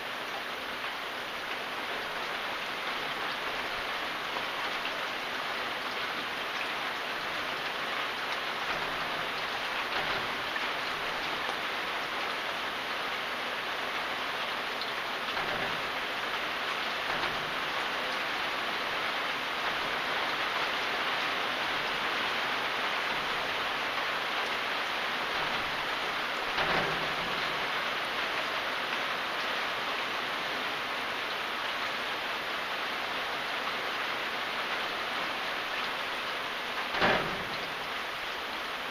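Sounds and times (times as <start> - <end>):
rain pattering on surfaces: 0.0 - 38.9.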